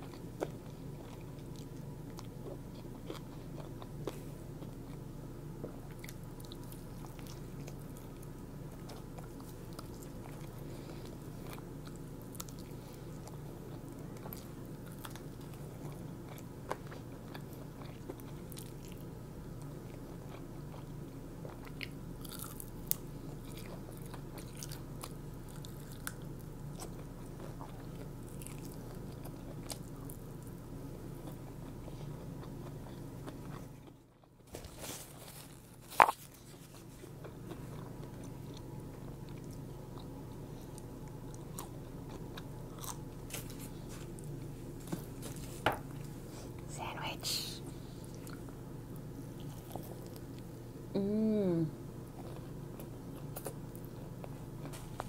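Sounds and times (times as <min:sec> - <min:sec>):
person chewing crispy food: 0:00.0 - 0:46.6, 0:48.0 - 0:50.6, 0:52.0 - 0:55.0
steady low hum: 0:00.0 - 0:55.0.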